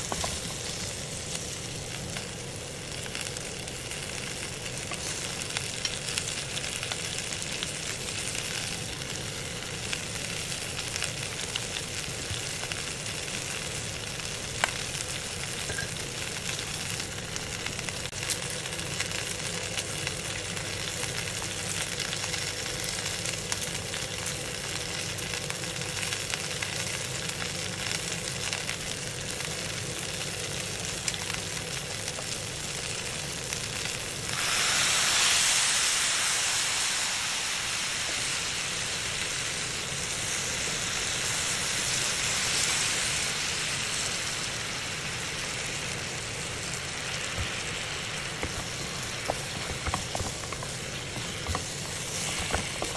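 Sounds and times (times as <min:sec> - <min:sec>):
chicken frying with crackling: 0:00.0 - 0:52.9.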